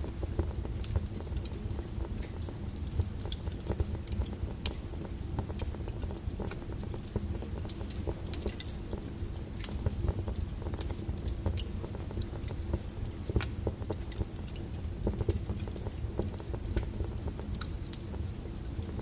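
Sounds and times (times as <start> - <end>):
fire rumbling: 0.0 - 19.0
logs crackling and popping: 0.0 - 19.0.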